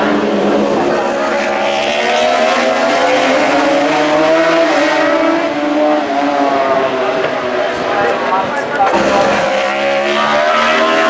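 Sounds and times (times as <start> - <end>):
racing motorcycles at high revs: 0.0 - 11.0.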